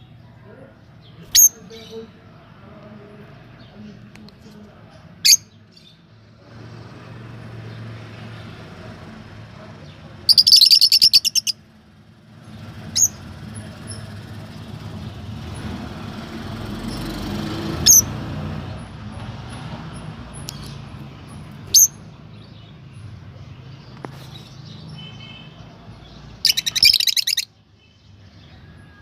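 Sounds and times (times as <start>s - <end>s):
birds chirping sharply: 0.0s - 28.8s.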